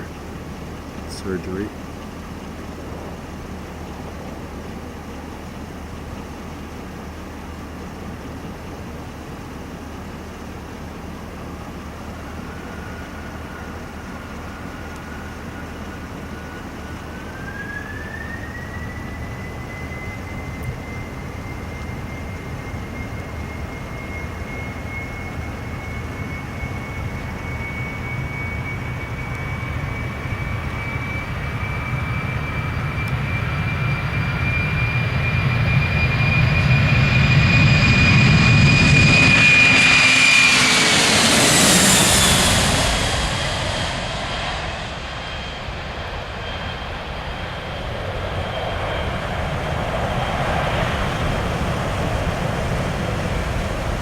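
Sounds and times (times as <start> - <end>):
jet engines roaring with high whine: 0.0 - 54.0.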